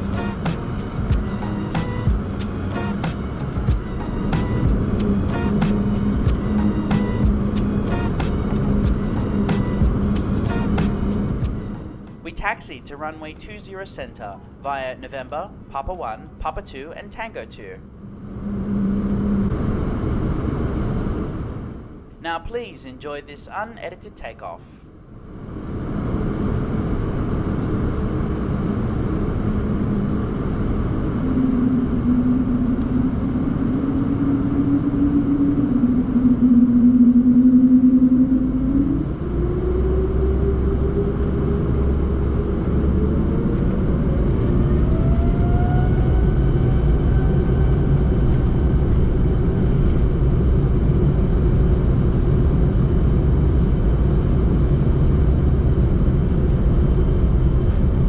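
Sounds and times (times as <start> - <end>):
deep rumble: 0.0 - 12.4, 14.0 - 22.2, 25.2 - 58.0
whining engine tones: 0.0 - 14.6, 16.8 - 22.1, 25.3 - 58.0
jet engine roar: 0.0 - 22.1, 25.4 - 58.0.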